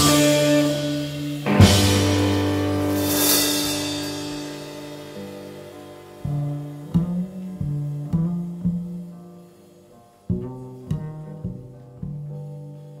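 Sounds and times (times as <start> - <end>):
plucked low string notes: 0.0 - 9.5, 10.2 - 12.9.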